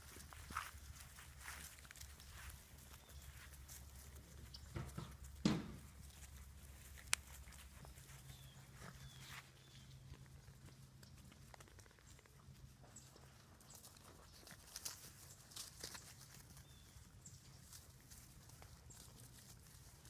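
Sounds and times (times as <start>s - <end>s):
puppies rustling and scuffling: 0.0s - 20.0s.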